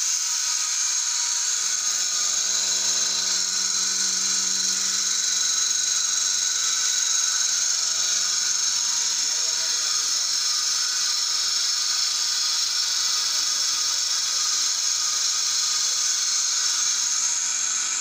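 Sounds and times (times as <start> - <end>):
vacuum pump hiss and hum: 0.0 - 18.0.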